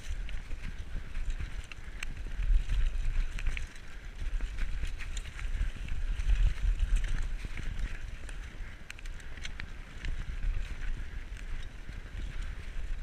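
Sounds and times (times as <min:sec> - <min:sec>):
bike clicking and rattling: 0:00.0 - 0:13.0
bike tyre noise: 0:00.0 - 0:13.0
wind buffeting microphone: 0:00.0 - 0:13.0.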